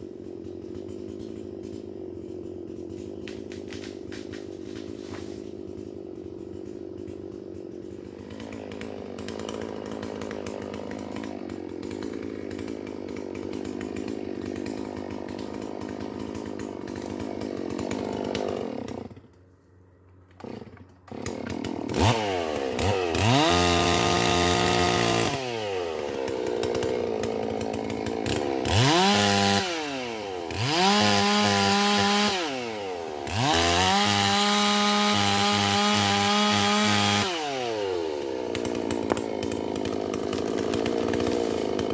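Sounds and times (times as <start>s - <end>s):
chainsaw revving: 0.0s - 19.4s, 20.3s - 41.9s.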